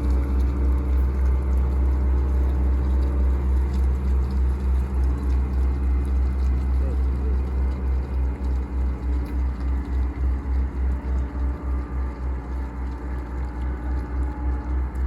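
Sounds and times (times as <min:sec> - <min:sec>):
boat engine throbbing: 0:00.0 - 0:15.0.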